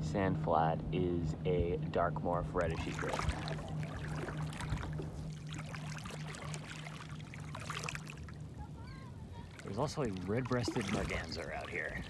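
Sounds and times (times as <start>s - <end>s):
pulsing motor hum: 0.0s - 12.0s
water noise: 0.0s - 12.0s.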